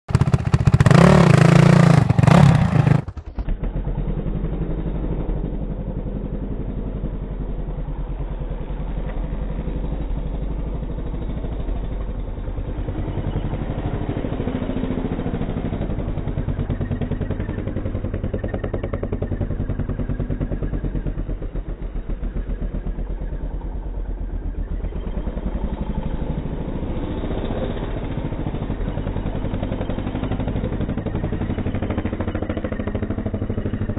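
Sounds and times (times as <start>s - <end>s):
slowed-down engine rumble: 0.0s - 33.9s
dirt bike engine revving: 0.1s - 33.9s.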